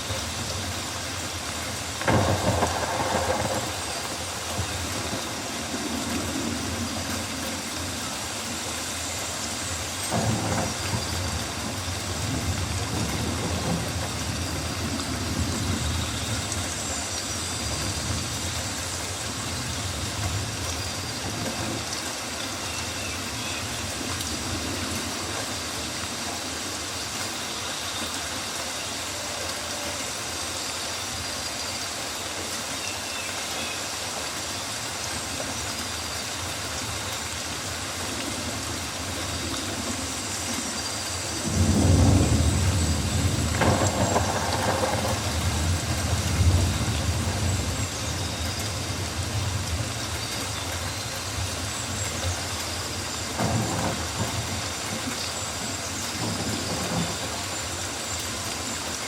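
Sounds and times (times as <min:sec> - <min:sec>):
rain on foliage: 0:00.0 - 0:59.0
faint high bird or insect calls: 0:02.0 - 0:59.0.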